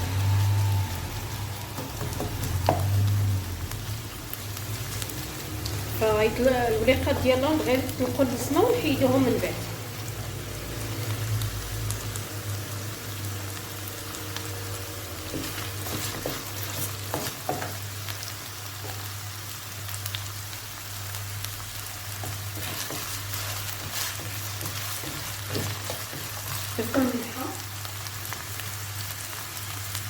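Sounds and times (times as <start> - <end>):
onion sizzling in hot oil: 0.0 - 30.0.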